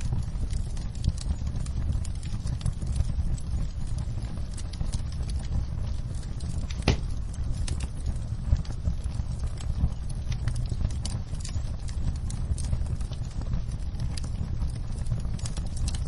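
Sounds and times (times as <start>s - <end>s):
low rumble: 0.0s - 16.0s
wood fire crackling and popping: 0.0s - 16.0s.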